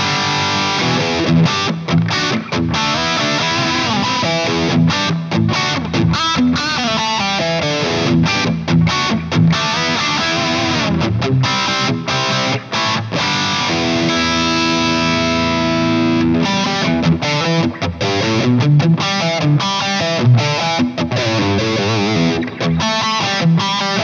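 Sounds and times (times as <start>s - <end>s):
distorted electric guitar riff: 0.0s - 24.0s.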